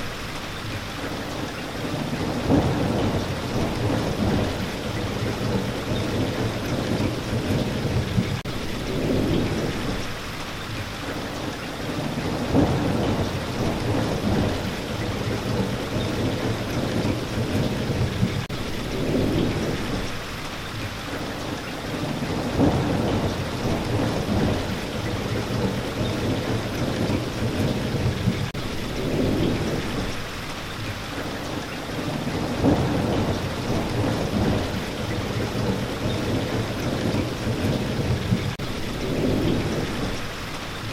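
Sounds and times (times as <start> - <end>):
steady rain: 0.0 - 40.9
low thunder rumbles: 1.8 - 10.2, 11.9 - 20.8, 21.8 - 30.4, 31.4 - 40.9.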